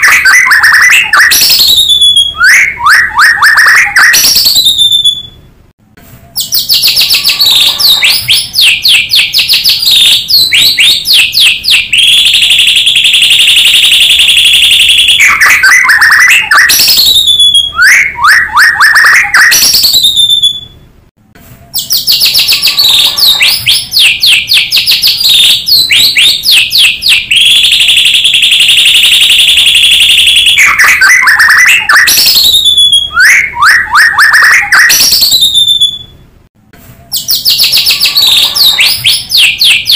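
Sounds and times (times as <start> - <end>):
bird song recording: 0.0 - 5.5, 6.1 - 20.9, 21.6 - 28.9, 29.6 - 36.2, 37.0 - 39.9.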